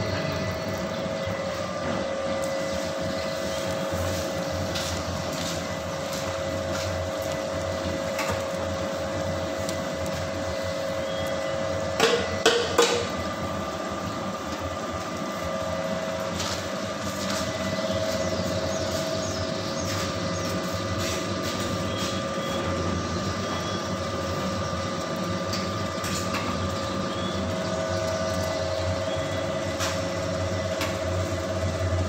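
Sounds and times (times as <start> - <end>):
oil press motor humming: 0.0 - 32.0.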